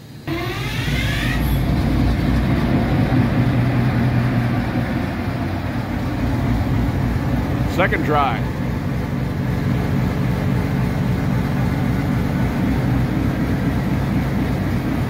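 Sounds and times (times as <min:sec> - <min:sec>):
diesel engine starting and rumbling: 0:00.0 - 0:15.0.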